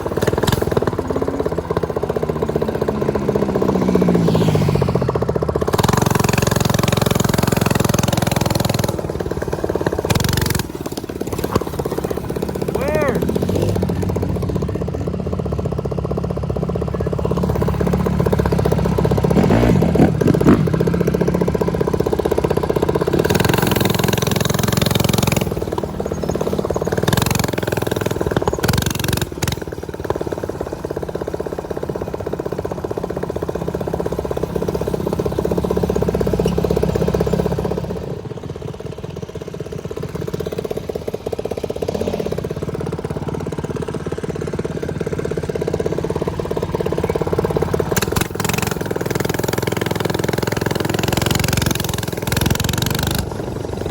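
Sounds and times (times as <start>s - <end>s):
small motorcycle engine running: 0.0s - 53.9s.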